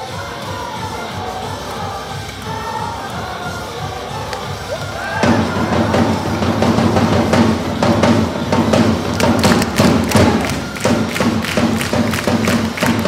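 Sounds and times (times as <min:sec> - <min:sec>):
cheering music with heavy drum beats: 0:00.0 - 0:13.0.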